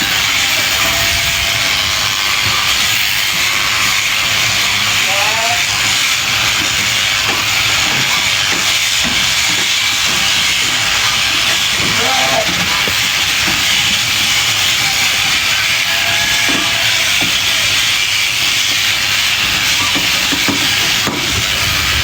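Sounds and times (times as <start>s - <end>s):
electric sheep shears hissing: 0.0s - 22.0s.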